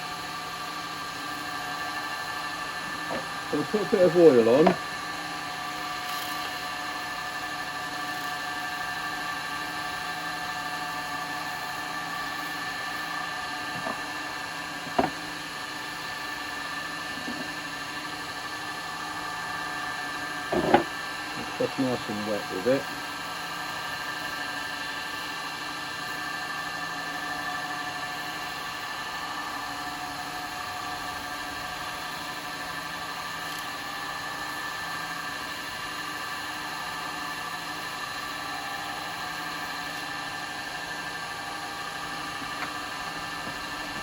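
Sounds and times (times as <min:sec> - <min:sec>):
wood lathe motor hum and whine: 0:00.0 - 0:44.0.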